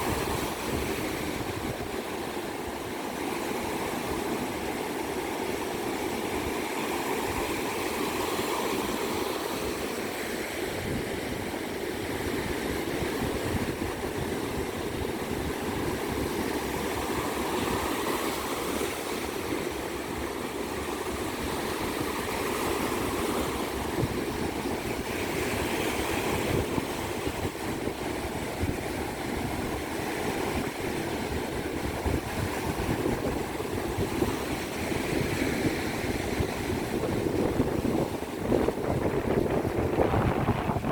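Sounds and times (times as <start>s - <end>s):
ocean surf washing on beach: 0.0s - 40.9s.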